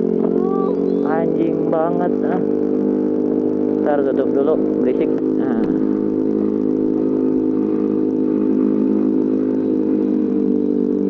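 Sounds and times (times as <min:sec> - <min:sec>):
loud scooter engine running: 0:00.0 - 0:11.0.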